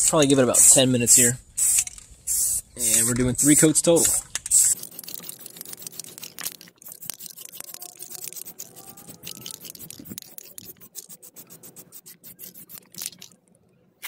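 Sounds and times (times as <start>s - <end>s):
aerosol can spraying in spurts: 1.6s - 13.4s.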